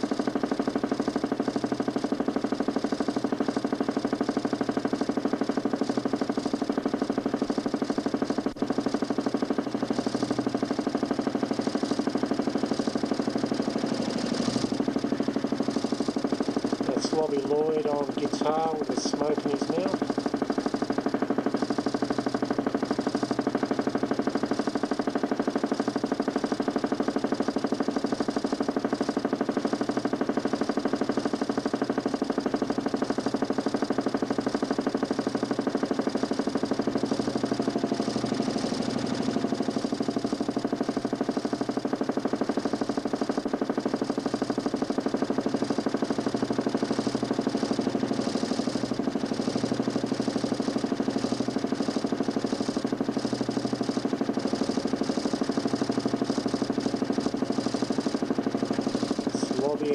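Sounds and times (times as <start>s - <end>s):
motor humming with fast flutter: 0.0s - 59.9s.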